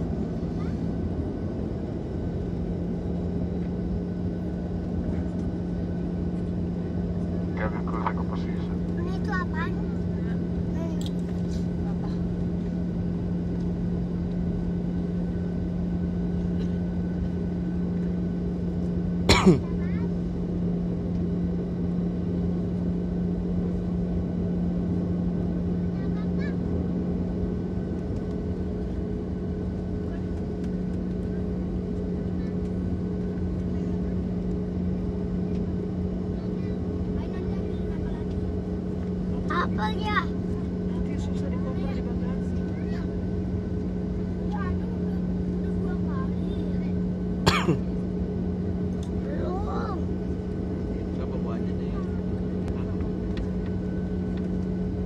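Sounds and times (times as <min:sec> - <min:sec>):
airliner engine rumble: 0:00.0 - 0:55.0.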